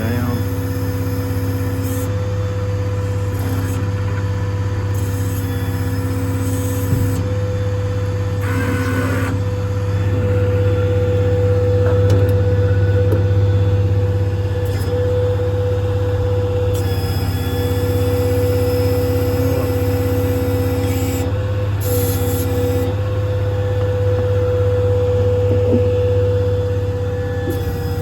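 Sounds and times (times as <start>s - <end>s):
diesel engine drone: 0.0s - 28.0s
hydraulic whine: 0.0s - 28.0s.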